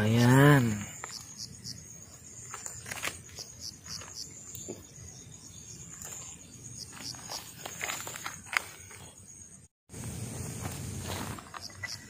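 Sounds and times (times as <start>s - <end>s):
insects trilling and chirping: 0.0s - 12.0s.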